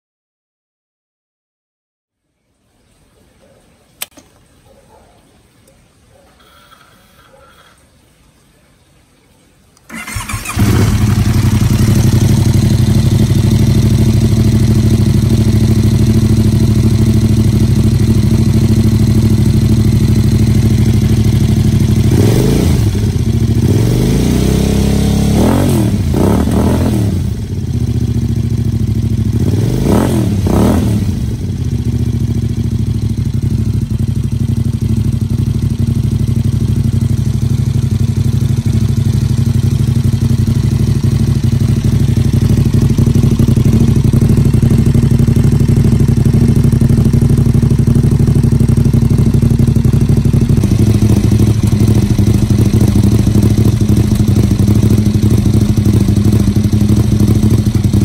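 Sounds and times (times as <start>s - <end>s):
motorcycle engine idling: 9.9s - 58.0s
motorcycle throttle blips: 9.9s - 58.0s.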